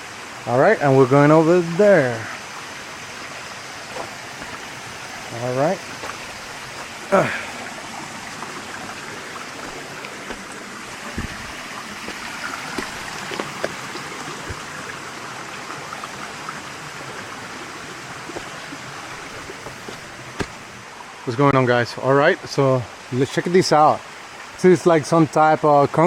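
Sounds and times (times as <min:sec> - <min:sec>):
stream water flowing: 0:00.0 - 0:26.0.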